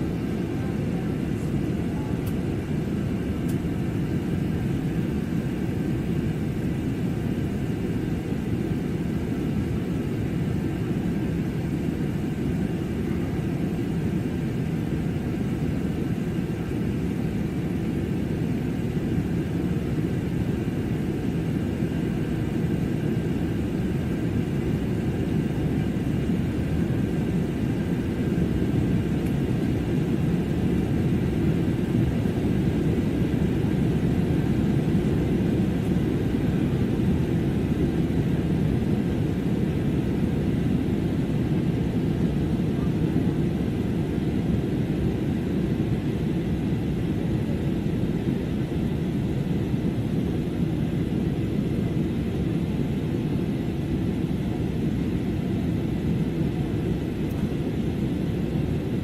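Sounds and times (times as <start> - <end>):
airliner cabin engine roar: 0.0 - 59.0.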